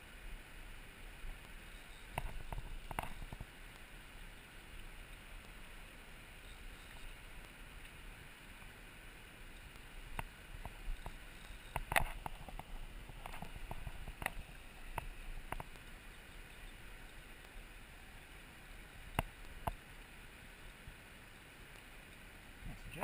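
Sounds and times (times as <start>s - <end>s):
river water running over stones: 0.0s - 23.0s.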